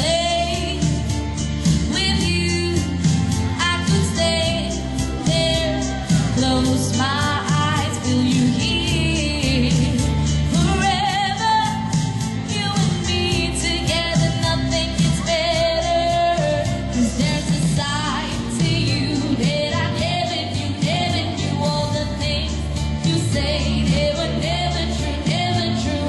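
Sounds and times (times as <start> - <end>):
woman singing pop song: 0.0 - 26.0.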